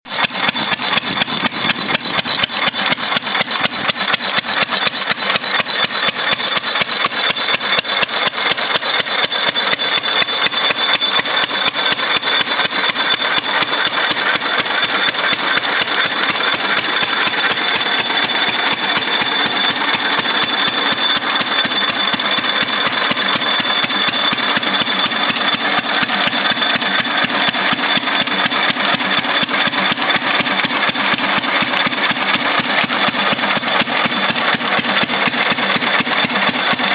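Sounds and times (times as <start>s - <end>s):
generator engine running: 0.1s - 36.9s
high whine: 0.1s - 36.9s.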